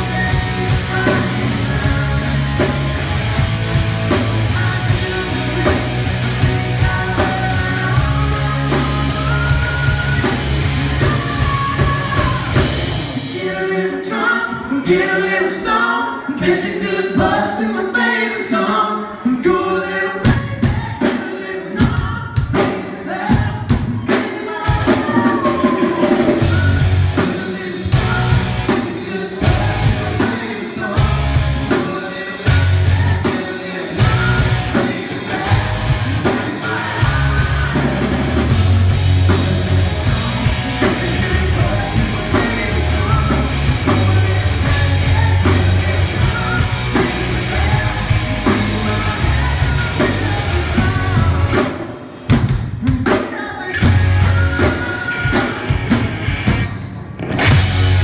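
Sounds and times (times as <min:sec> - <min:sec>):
lead singer singing: 0:00.0 - 0:03.2, 0:04.1 - 0:56.0
live rock band playing: 0:00.0 - 0:19.2, 0:20.2 - 0:58.0.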